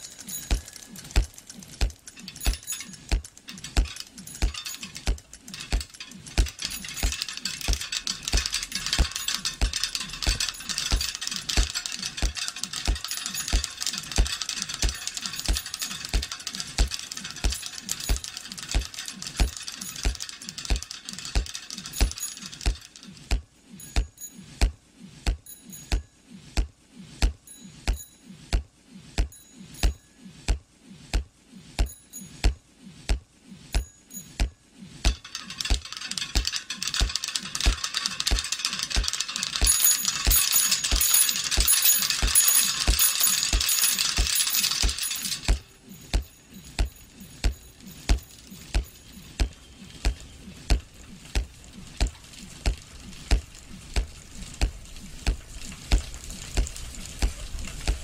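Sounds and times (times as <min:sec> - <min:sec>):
clattering noise with high ticks: 0:00.0 - 0:28.6, 0:31.8 - 0:58.0.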